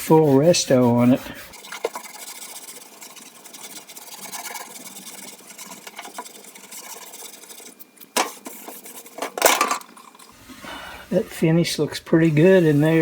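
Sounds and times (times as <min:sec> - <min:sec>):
steel wool scrubbing metal: 0:00.0 - 0:13.0.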